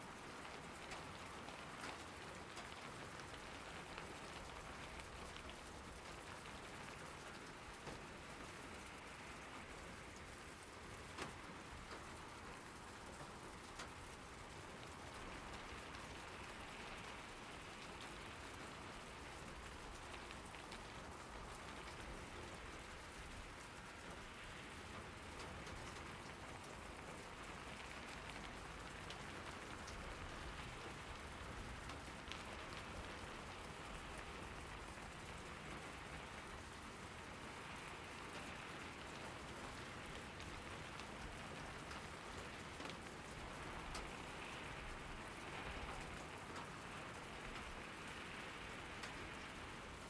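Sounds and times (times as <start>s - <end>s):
raindrops ticking on a surface: 0.0s - 50.0s
steady rainfall: 0.0s - 50.0s.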